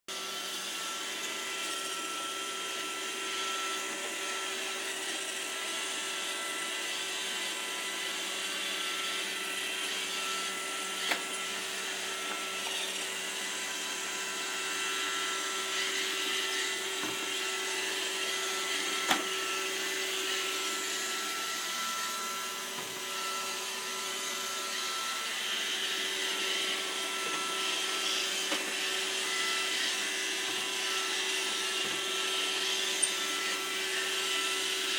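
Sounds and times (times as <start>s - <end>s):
robot vacuum whirring: 0.1s - 34.9s.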